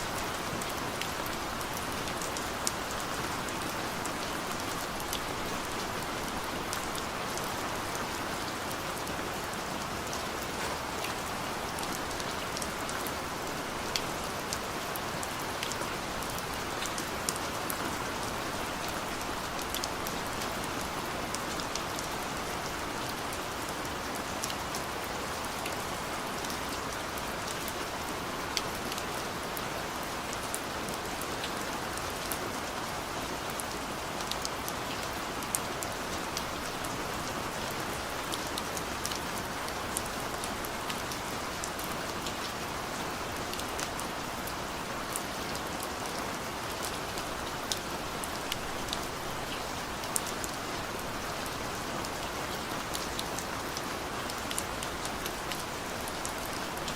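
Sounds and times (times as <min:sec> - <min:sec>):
heavy rain pouring: 0:00.0 - 0:56.9
raindrops ticking on a surface: 0:00.0 - 0:56.9.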